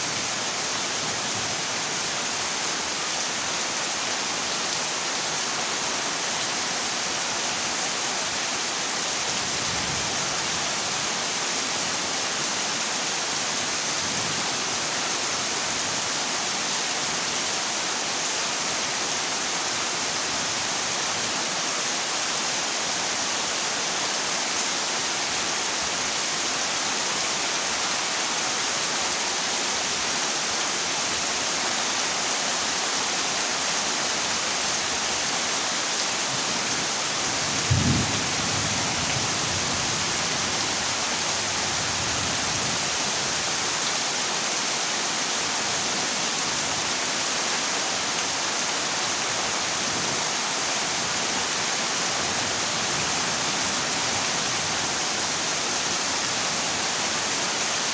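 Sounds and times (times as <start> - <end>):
heavy rain on a metal roof: 0.0 - 57.9.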